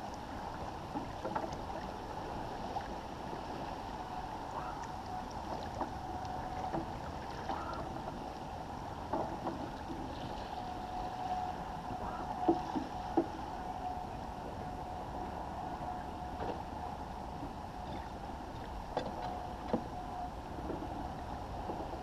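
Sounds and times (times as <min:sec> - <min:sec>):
water rushing along hull: 0:00.0 - 0:22.0.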